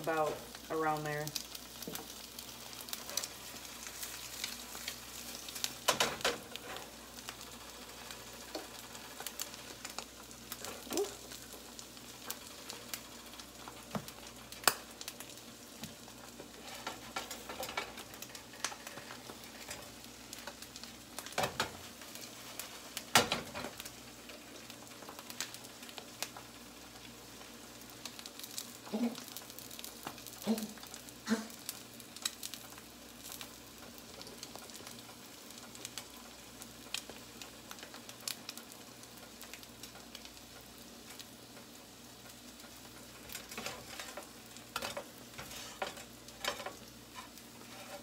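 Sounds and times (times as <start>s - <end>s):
eggs sizzling in a skillet: 0.0s - 48.0s.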